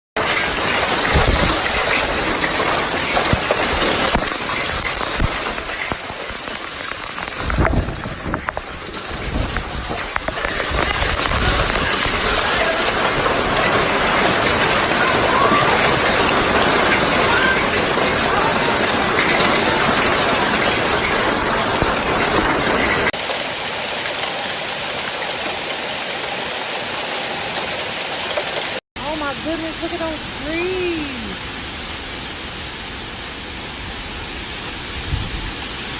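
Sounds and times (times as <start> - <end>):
hail pounding down: 0.2 - 35.9.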